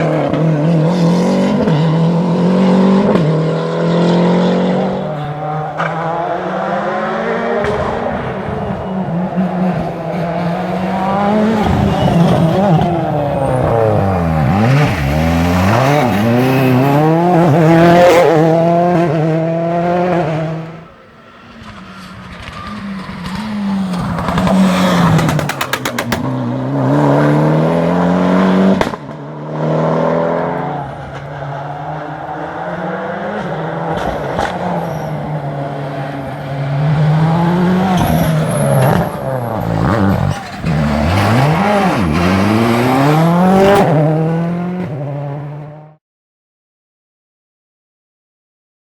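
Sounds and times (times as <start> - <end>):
rally car engines revving: 0.0 - 46.0.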